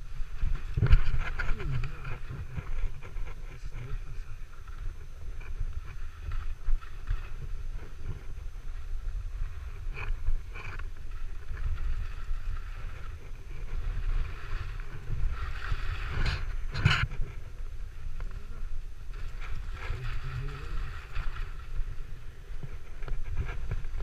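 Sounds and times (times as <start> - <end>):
wind rumbling on microphone: 0.0 - 24.0
skis swishing over snow: 0.1 - 24.0.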